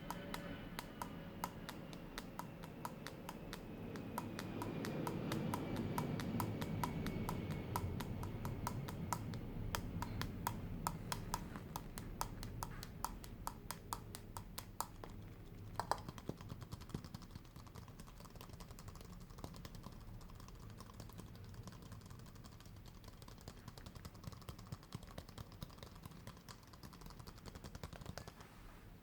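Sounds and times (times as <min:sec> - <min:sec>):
rapid light tapping: 0:00.0 - 0:28.6.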